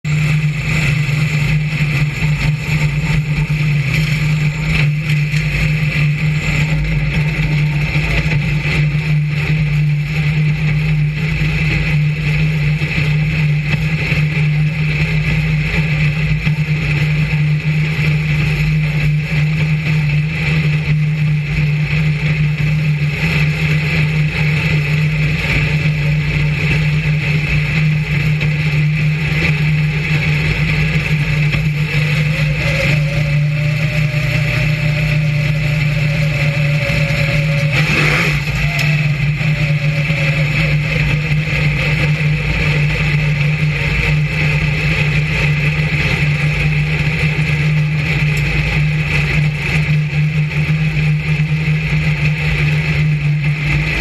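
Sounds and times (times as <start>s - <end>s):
race car engine droning: 0.0s - 54.0s.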